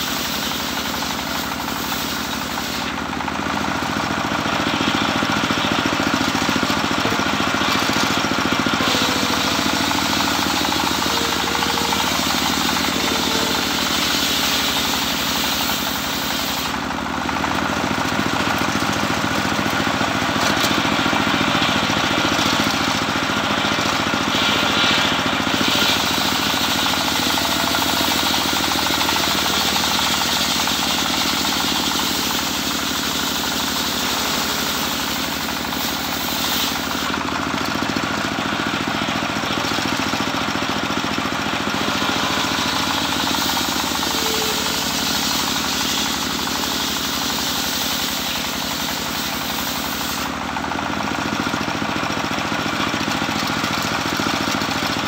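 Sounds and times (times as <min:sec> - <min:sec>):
saw blade cutting wood: 0:00.0 - 0:50.5
engine drone: 0:00.0 - 0:55.0.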